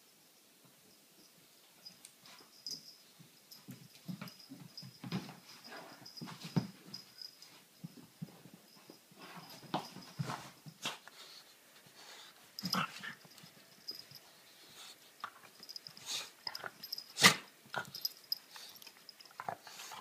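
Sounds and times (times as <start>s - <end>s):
dog and cat scuffling: 1.5s - 20.0s.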